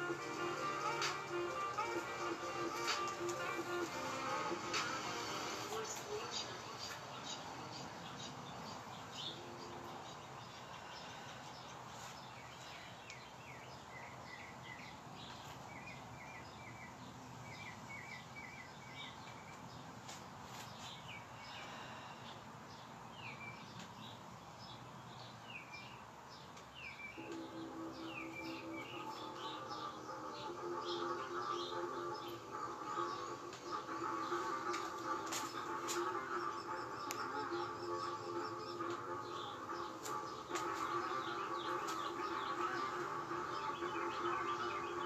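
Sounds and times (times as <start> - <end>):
birds chirping: 0.0 - 45.0
steady background hiss: 0.0 - 45.0.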